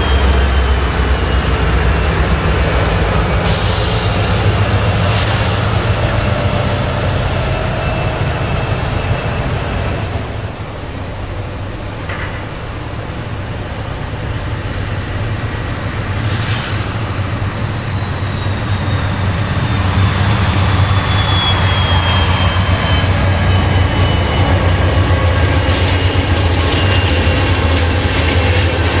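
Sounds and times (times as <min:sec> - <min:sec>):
diesel locomotive engines droning: 0:00.0 - 0:29.0
rail cars rolling past: 0:00.0 - 0:29.0.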